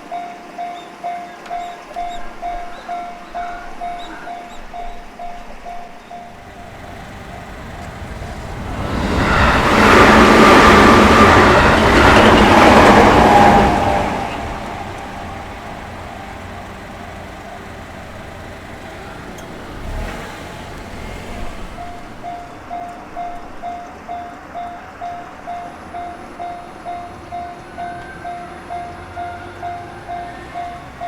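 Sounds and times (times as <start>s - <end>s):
crossing bell ringing: 0.0s - 31.0s
electric train passing: 6.1s - 31.0s.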